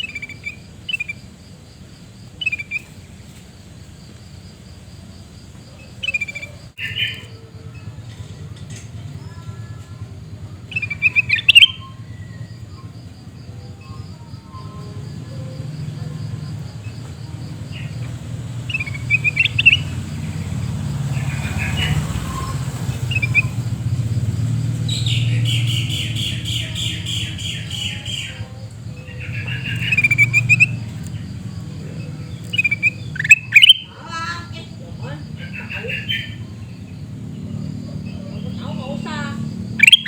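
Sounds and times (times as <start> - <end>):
bulbuls chattering calls: 0.0 - 40.0.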